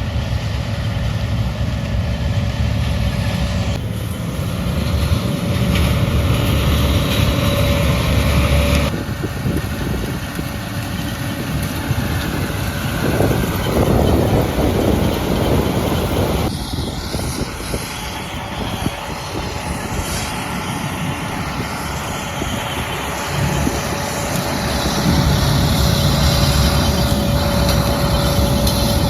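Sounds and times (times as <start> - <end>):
combine harvester running: 0.0 - 29.0
thin steady whine: 0.0 - 29.0.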